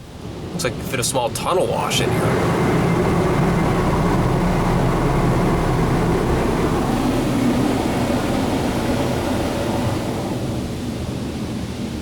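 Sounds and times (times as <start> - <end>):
car wash blasters rushing: 0.0 - 12.0.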